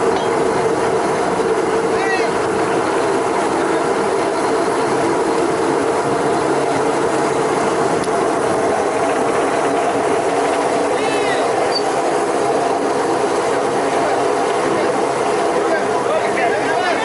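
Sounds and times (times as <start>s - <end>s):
boat engine and machinery clatter: 0.0s - 17.0s.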